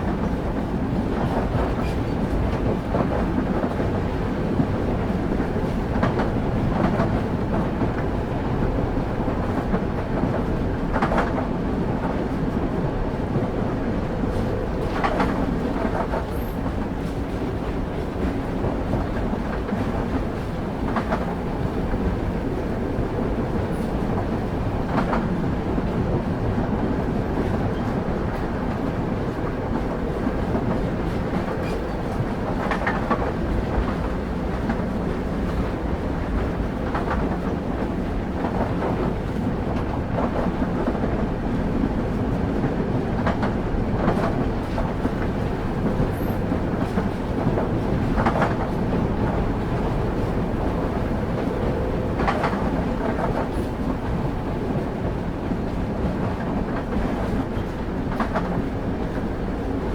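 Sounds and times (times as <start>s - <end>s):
clacks over rail joints: 0.0s - 59.9s
train wheels rumbling: 0.0s - 59.9s.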